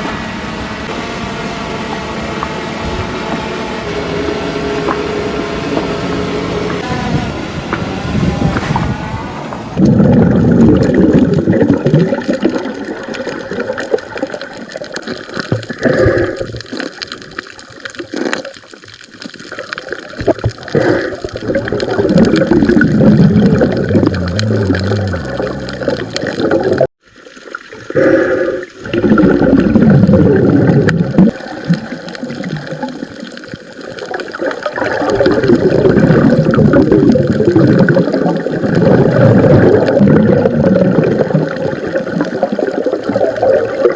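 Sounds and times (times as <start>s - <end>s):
water sloshing and gurgling: 1.8s - 43.9s.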